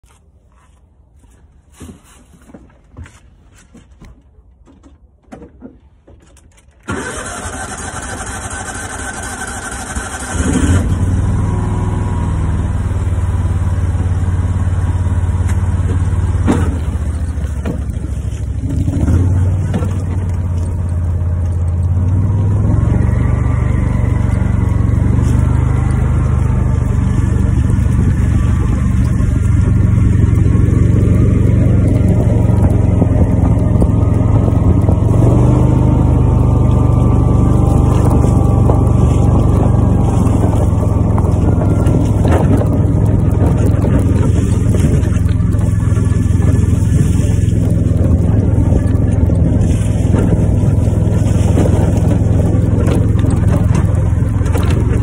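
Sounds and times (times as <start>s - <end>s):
utility vehicle engine running: 6.5s - 55.0s.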